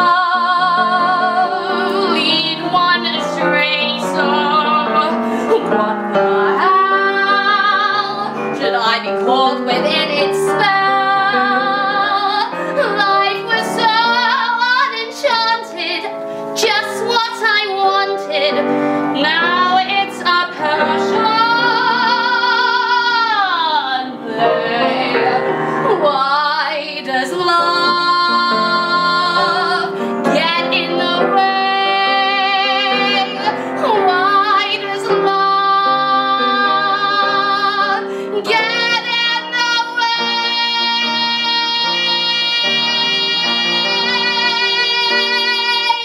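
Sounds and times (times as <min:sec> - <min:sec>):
grand piano accompaniment: 0:00.0 - 0:46.0
woman singing a ballad: 0:00.0 - 0:46.0.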